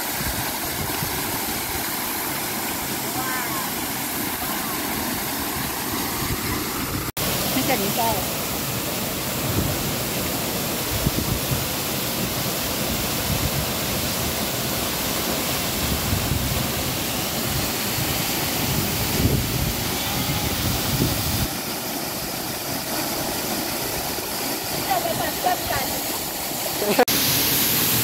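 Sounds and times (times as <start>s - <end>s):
waterfall crashing into pool: 0.0s - 28.0s.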